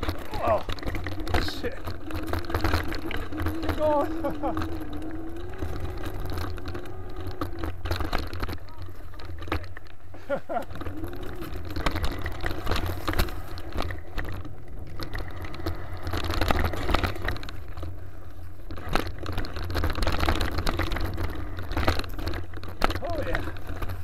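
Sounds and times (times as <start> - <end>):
bike rattling and knocking: 0.0 - 24.0
bike tyres over dirt and roots: 0.0 - 24.0.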